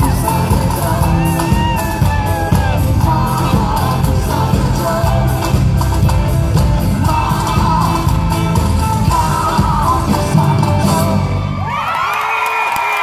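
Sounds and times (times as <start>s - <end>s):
live rock band with singing: 0.0s - 12.0s.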